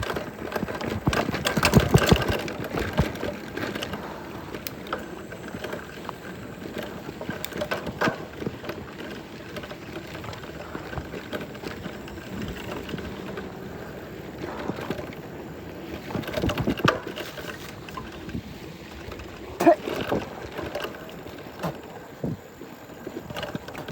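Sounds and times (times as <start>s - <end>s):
bike kickstand rattling: 0.0s - 6.0s, 6.6s - 21.9s.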